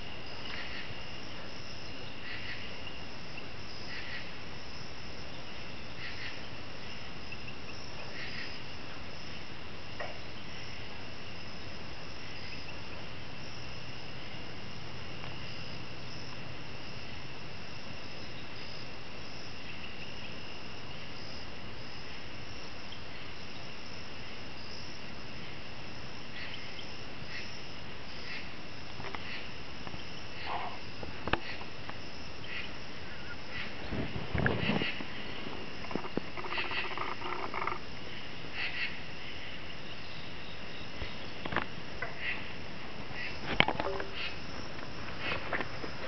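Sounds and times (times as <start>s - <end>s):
crickets and insects chirring: 0.0s - 46.0s.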